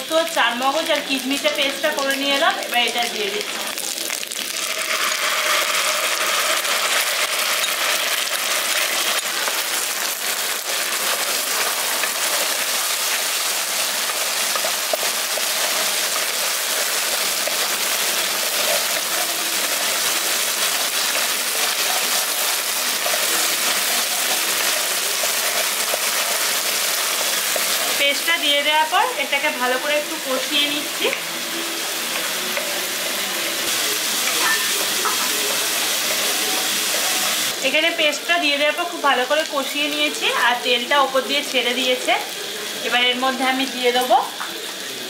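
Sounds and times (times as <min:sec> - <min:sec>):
paste sizzling in hot oil: 0:00.0 - 0:45.0.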